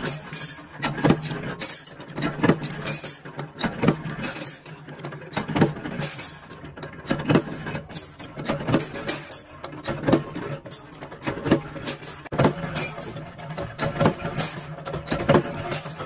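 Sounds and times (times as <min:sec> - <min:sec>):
sharp clicks and knocks: 0:00.0 - 0:16.0.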